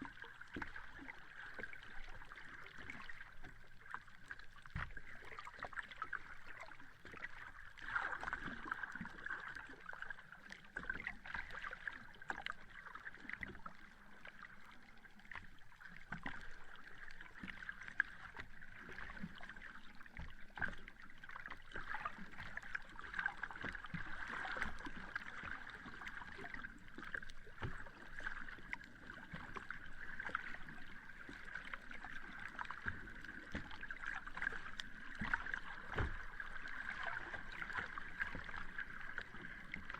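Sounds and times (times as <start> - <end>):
small waves lapping at shoreline: 0.0 - 39.9.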